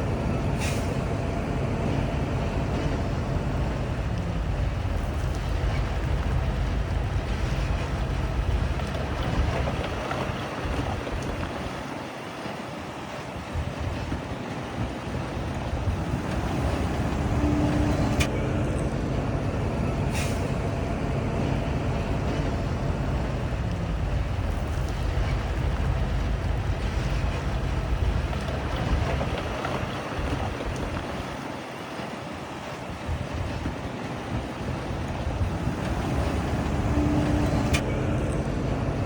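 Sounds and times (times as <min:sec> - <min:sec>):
heavy diesel engine under load: 0:00.0 - 0:39.0.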